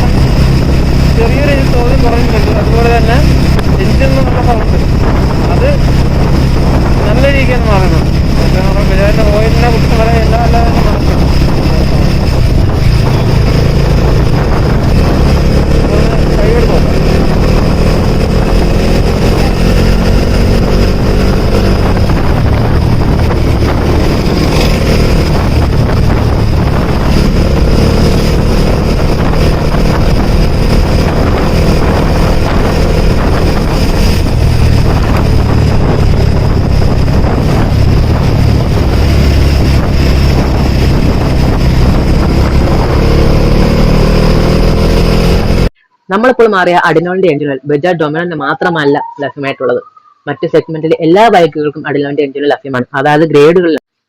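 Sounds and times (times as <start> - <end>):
motorcycle engine running: 0.0 - 45.8
wind noise on microphone: 0.0 - 54.0.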